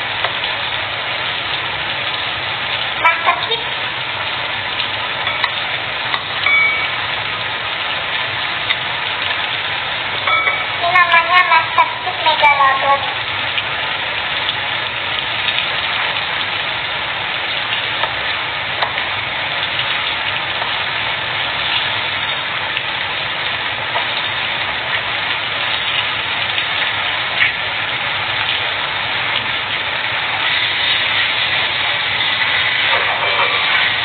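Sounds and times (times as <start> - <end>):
food sizzling in hot oil: 0.0 - 34.0
oil popping: 3.8 - 12.0, 13.3 - 34.0.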